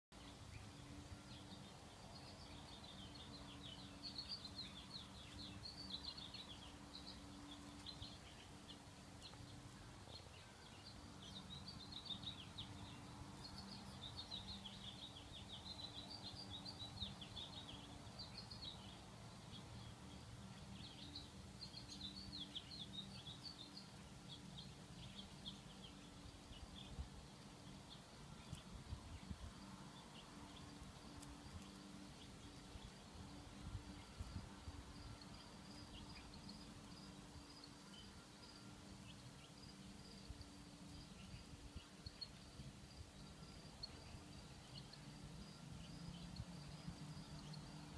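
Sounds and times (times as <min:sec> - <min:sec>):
small birds twittering: 0:00.2 - 0:47.9.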